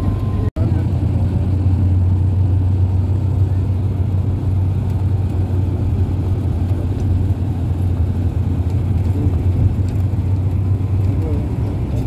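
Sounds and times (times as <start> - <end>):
bus engine and road noise drone: 0.0 - 12.0.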